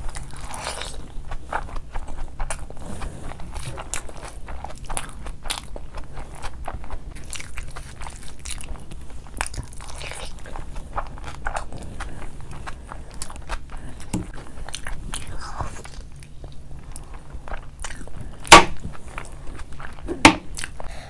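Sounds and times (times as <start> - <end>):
fingers squishing through rice: 0.0 - 21.0
wet chewing and lip-smacking: 0.0 - 21.0.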